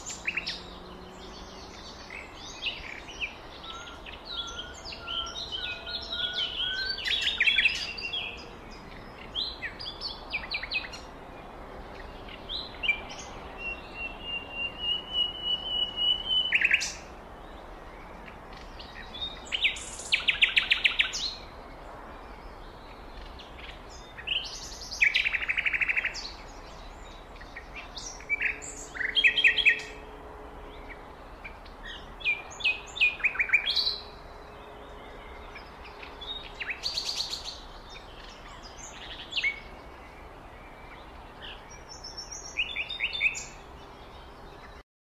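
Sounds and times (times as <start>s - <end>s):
songbirds chirping and singing: 0.0s - 44.8s.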